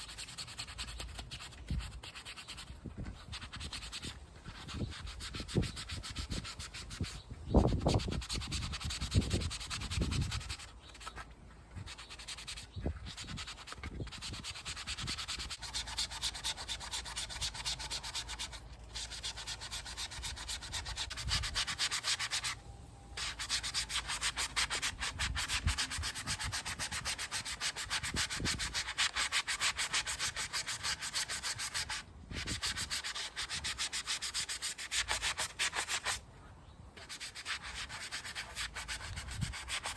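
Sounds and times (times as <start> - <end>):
sandpaper rasping on plastic: 0.0 - 22.6, 23.2 - 36.2, 37.0 - 39.9.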